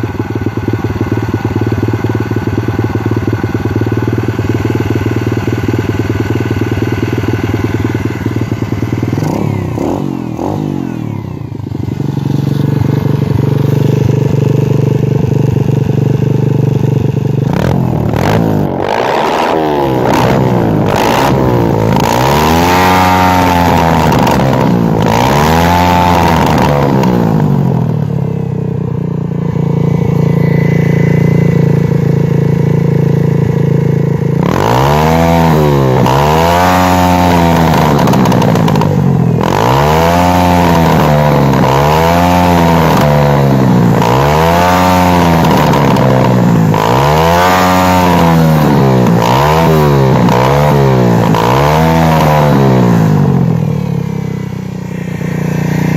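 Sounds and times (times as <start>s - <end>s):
dirt bike engine revving: 1.0s - 28.4s, 29.2s - 55.9s.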